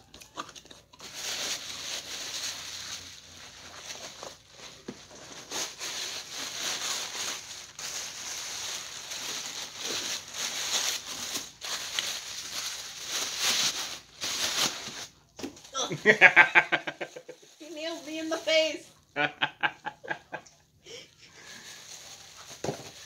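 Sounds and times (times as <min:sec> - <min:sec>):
packing paper crinkling and rustling: 0:00.0 - 0:19.1, 0:21.4 - 0:23.0.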